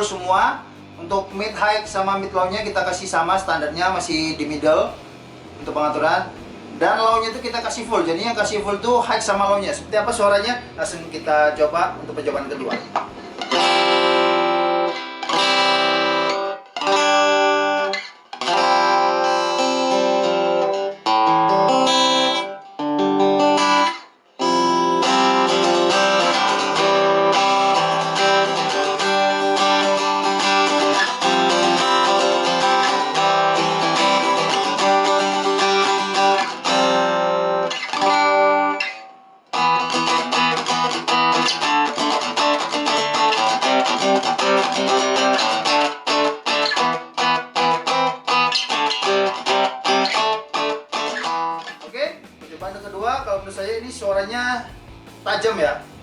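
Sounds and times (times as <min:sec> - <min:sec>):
acoustic guitar chords: 0:00.0 - 0:56.0.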